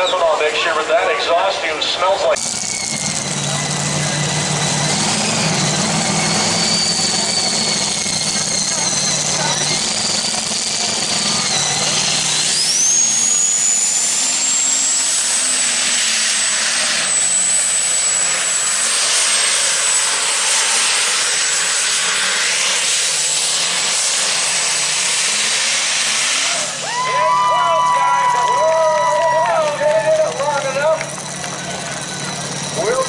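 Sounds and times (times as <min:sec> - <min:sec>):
diesel tractor engine under load: 0:00.0 - 0:33.0
turbocharger whine: 0:00.0 - 0:33.0.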